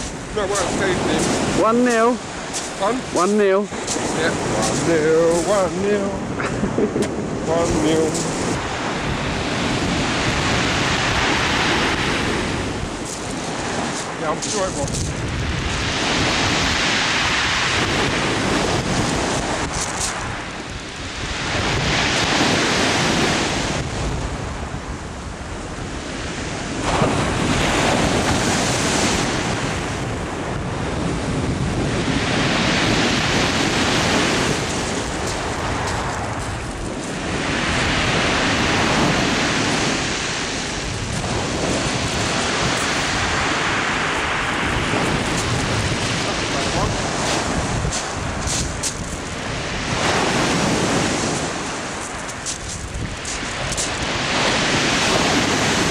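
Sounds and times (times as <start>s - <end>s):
surf breaking on shingle beach: 0.0s - 55.9s.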